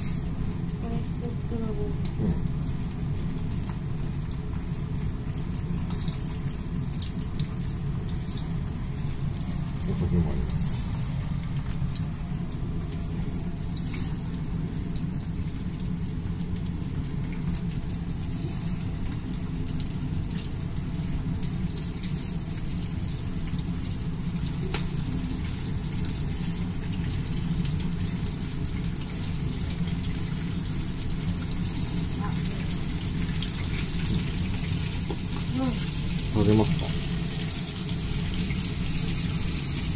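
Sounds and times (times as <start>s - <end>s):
oil sizzling and crackling: 0.0s - 39.9s.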